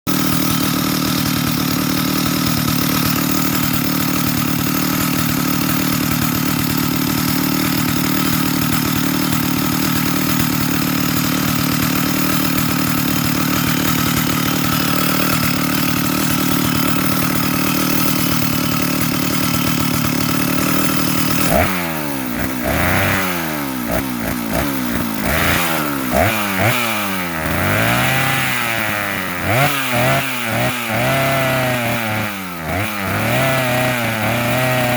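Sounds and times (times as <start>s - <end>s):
chainsaw idling and revving: 0.1s - 34.9s.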